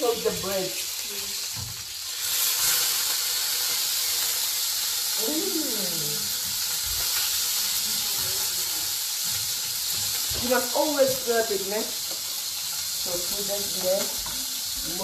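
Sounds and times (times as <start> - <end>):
burger patty sizzling in pan: 0.0 - 15.0.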